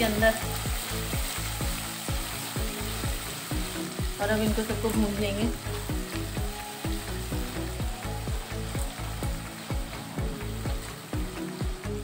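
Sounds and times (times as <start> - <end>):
background music with steady beat: 0.0 - 12.0
vegetables sizzling in hot oil: 0.0 - 12.0.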